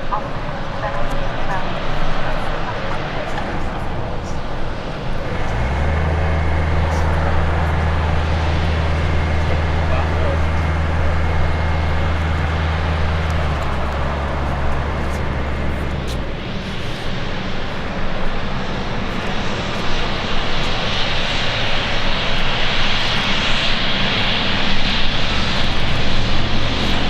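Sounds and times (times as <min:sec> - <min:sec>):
high jet whine: 0:00.0 - 0:27.0
jet airliner approaching: 0:00.0 - 0:27.0.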